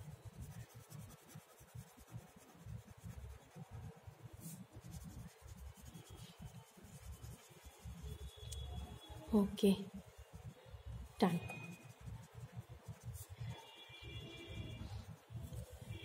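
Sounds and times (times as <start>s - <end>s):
crayon scratching on paper: 0.0s - 10.5s, 11.1s - 16.0s.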